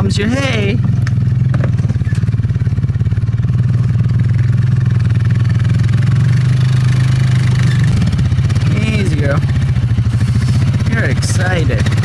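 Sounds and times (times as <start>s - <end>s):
small engine running steadily: 0.0s - 12.0s.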